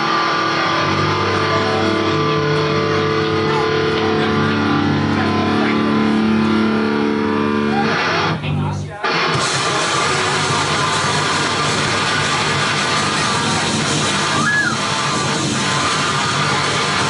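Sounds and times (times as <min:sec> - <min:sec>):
live metal band playing: 0:00.0 - 0:17.0.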